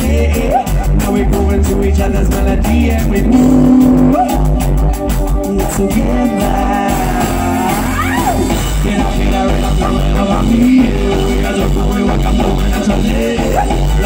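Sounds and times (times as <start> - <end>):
live rock band playing: 0.0 - 14.0
man singing lead vocal: 0.0 - 14.0.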